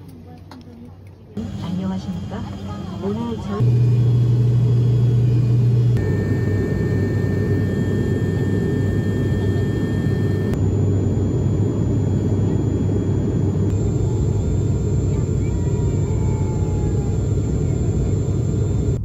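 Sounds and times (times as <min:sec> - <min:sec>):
airliner engines humming in cabin: 0:01.4 - 0:19.0.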